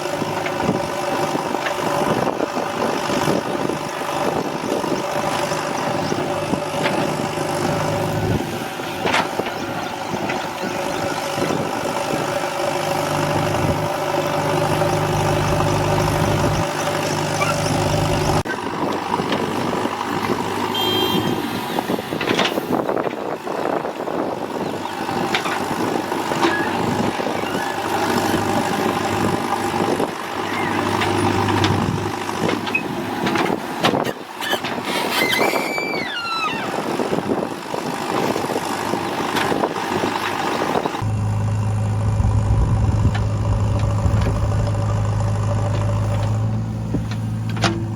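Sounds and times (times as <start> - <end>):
heavy diesel engine running: 0.0 - 34.8, 36.5 - 47.9.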